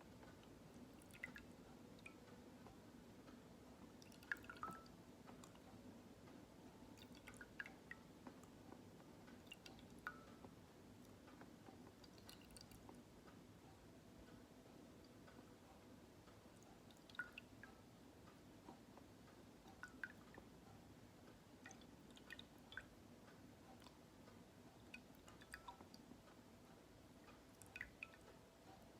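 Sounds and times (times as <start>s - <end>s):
low steady hum: 0.0s - 28.9s
water drips: 0.1s - 13.4s, 16.3s - 28.9s.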